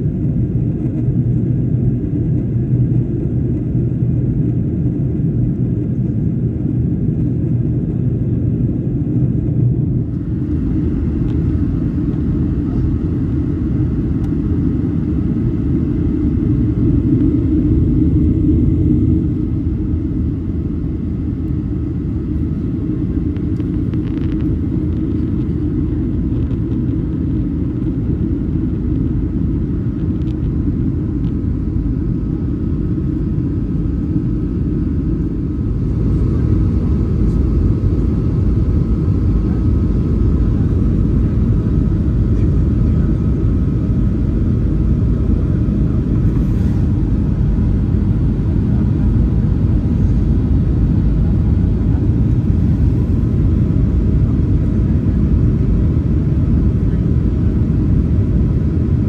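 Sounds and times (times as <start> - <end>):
airflow and jet engine rumble: 0.0 - 59.0
faint steady whine: 0.0 - 59.0.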